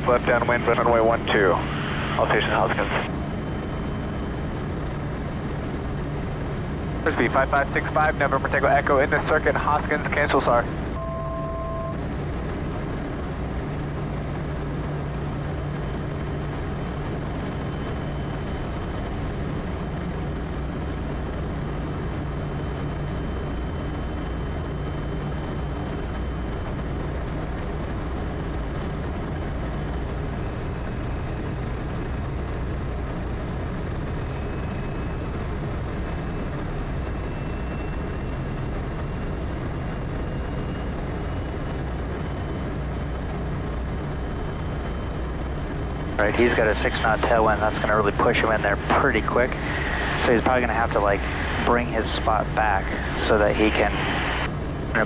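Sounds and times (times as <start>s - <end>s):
constant low hum: 0.0s - 55.0s
propeller plane engine drone: 0.0s - 55.0s.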